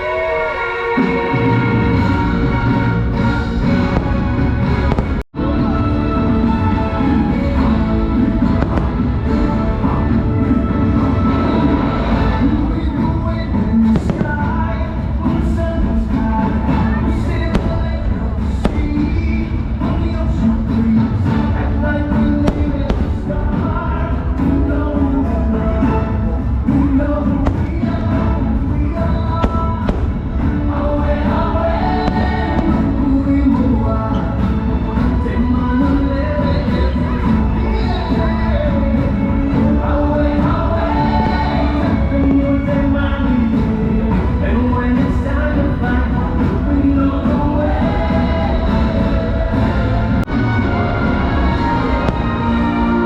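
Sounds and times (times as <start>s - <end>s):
soundtrack music with held notes: 0.0s - 53.0s
deep low rumble: 2.3s - 50.3s.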